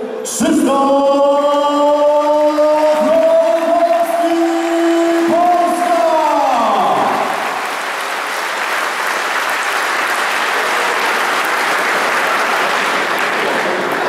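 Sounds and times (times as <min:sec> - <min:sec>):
crowd applauding: 0:02.5 - 0:14.0.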